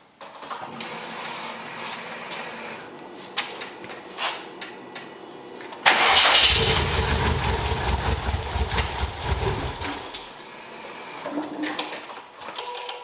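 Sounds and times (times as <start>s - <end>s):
car engine starting and rumbling: 0.5s - 11.3s.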